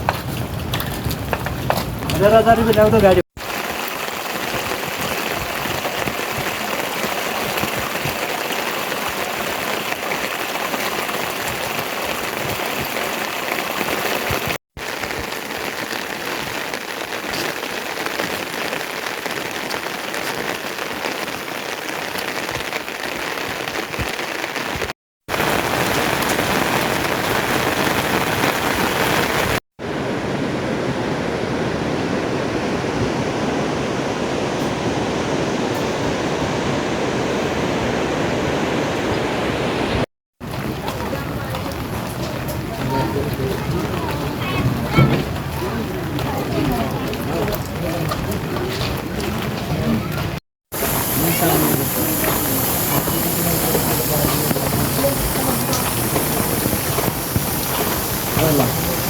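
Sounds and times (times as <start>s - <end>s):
rain hissing: 0.0s - 59.0s
running water: 1.0s - 59.0s
rushing stream: 1.8s - 59.0s.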